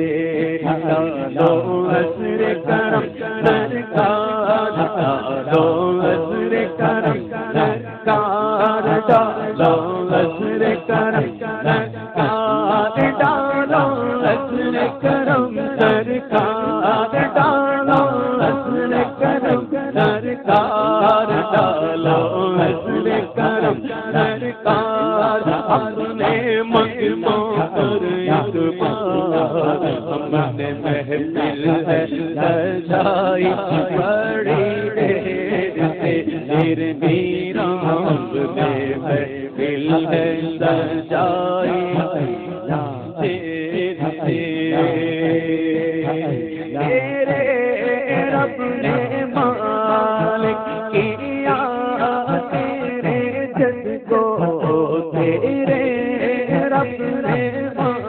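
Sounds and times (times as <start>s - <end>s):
man singing devotional hymn: 0.0s - 58.0s.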